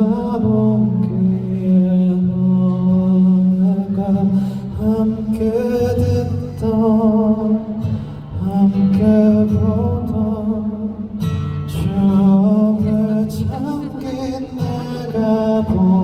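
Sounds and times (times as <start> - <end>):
man singing slow song: 0.0 - 16.0.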